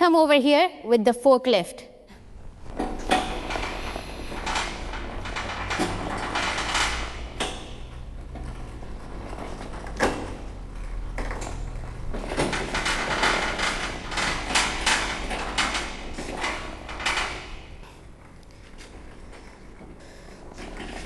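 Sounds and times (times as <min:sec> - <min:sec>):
metal clanking and rattling: 0:02.2 - 0:21.0.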